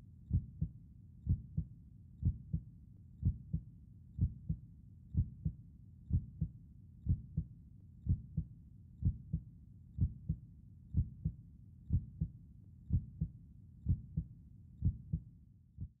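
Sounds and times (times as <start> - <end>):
heartbeat: 0.3 - 0.7, 1.3 - 3.6, 4.2 - 16.0.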